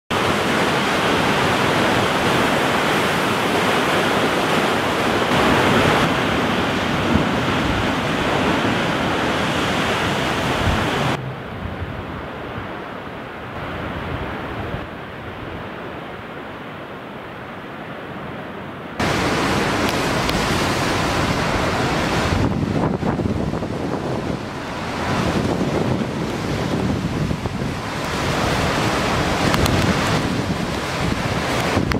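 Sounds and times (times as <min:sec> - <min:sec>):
waves crashing on rocky shore: 0:00.1 - 0:31.9.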